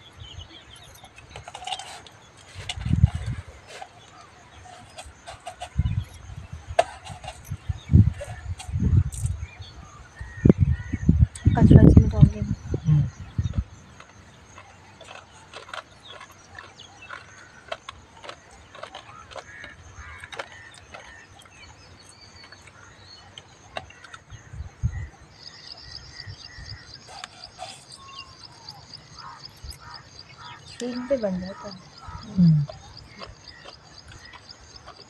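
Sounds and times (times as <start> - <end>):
birds chirping: 0.0 - 35.0
people eating melon: 1.0 - 9.4, 10.8 - 35.0.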